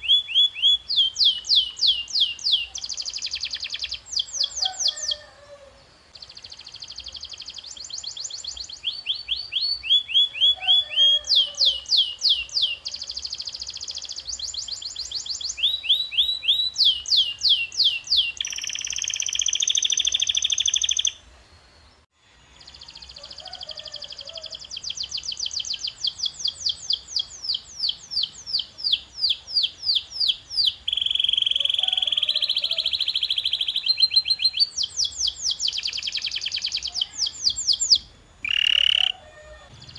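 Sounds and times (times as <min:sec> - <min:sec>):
canary singing trills: 0:00.0 - 0:22.0, 0:22.6 - 0:39.9.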